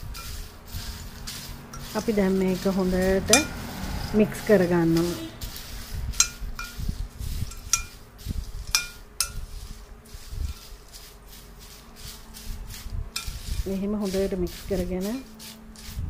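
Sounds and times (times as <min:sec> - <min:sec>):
dry mix rustling in bowl: 0:00.0 - 0:16.0.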